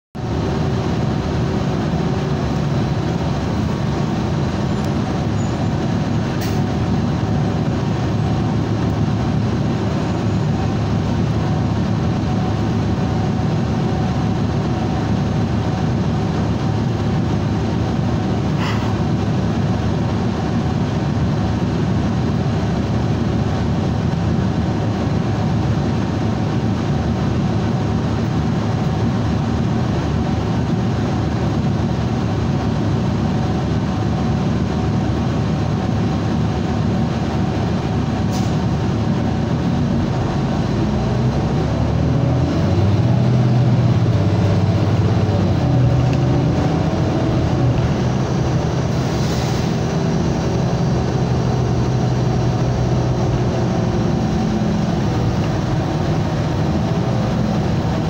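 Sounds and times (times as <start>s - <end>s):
bus engine idling: 0.2s - 58.0s.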